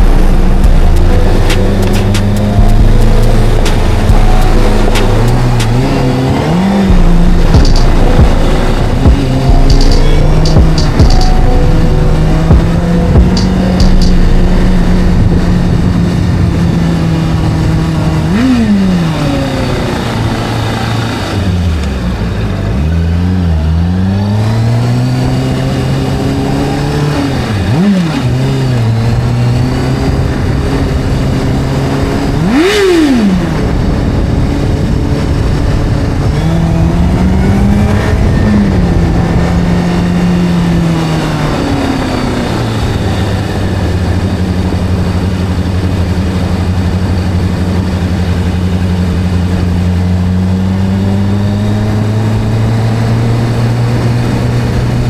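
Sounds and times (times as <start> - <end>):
sharp engine revs: 0.0 - 49.4
motorcycle engine running: 0.0 - 55.0.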